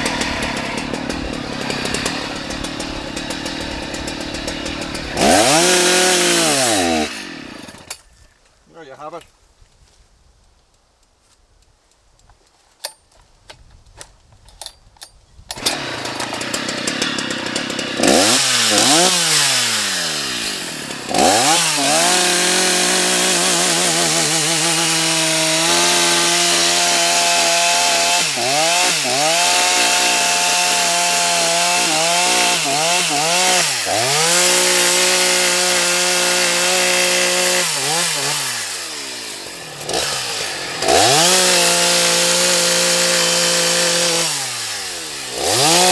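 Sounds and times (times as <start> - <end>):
chainsaw revving: 0.0 - 8.0, 15.5 - 45.9.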